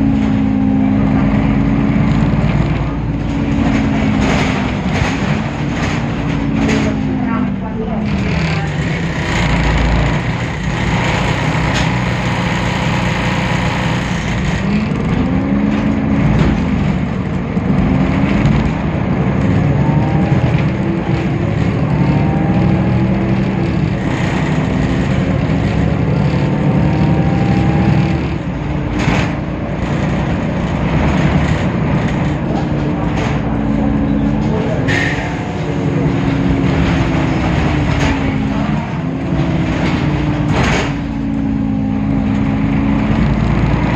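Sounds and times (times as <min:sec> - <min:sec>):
bus engine accelerating: 0:00.0 - 0:43.9.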